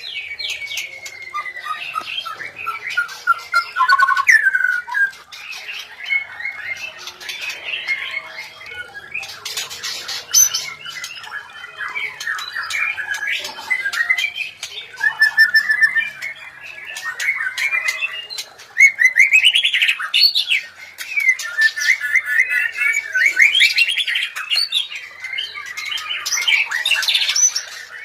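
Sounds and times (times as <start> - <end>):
bird scratchy chatter: 0.0 - 28.0
birds whistling and squawking: 0.0 - 28.0.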